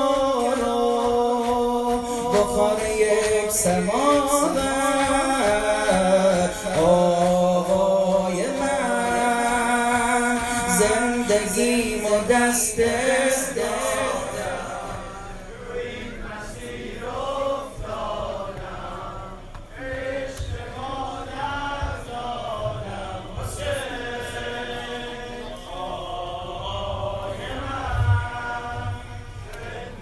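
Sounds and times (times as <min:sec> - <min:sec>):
male voices chanting in chorus: 0:00.0 - 0:30.0.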